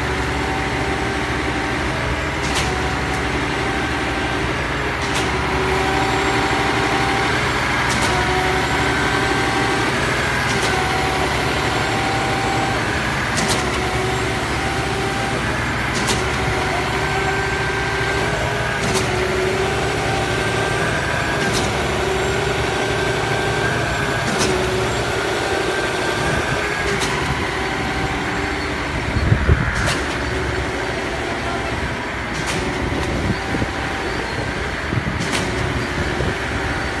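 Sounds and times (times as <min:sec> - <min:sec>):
concrete pump running: 0:00.0 - 0:37.0.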